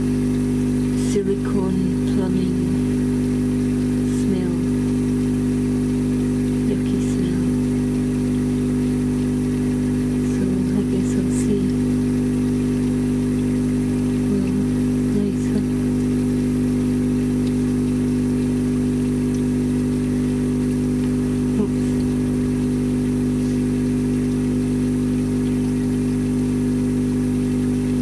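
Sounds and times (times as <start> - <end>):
ozone generator humming: 0.0 - 28.0.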